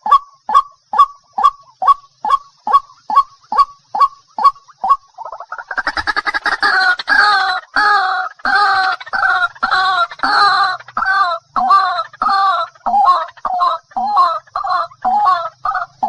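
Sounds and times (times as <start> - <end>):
water hen calling: 0.0 - 16.0.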